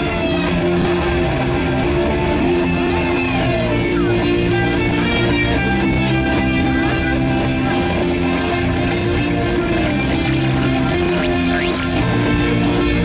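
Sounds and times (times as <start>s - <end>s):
reversed soundtrack music: 0.0s - 13.0s.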